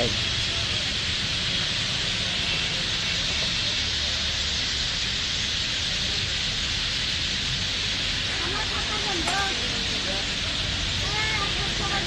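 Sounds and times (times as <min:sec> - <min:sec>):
flock of birds chattering: 0:00.0 - 0:12.0.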